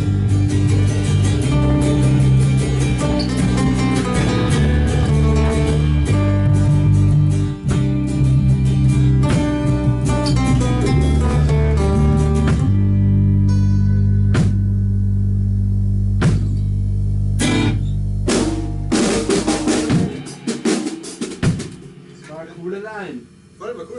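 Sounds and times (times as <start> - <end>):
drum and cymbal hits: 0.0 - 12.9, 14.3 - 14.8, 16.2 - 16.7, 17.4 - 23.9
band playing: 0.0 - 23.9.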